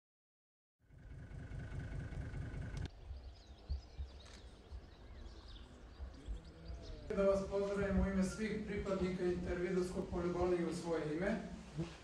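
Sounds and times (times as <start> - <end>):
birds chirping faintly: 1.7 - 11.5.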